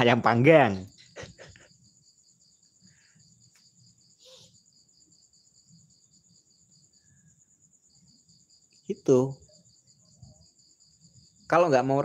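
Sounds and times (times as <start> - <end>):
insect chirping trills: 0.0 - 12.0.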